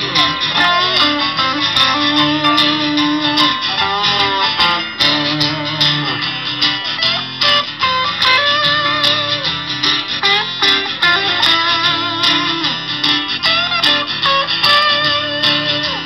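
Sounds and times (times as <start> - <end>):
electric guitar melody: 0.0 - 16.0
rock band playing: 0.0 - 16.0.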